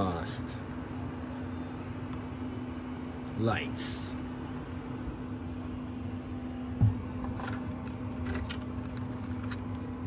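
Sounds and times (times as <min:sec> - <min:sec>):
cooling fans humming: 0:00.0 - 0:10.0.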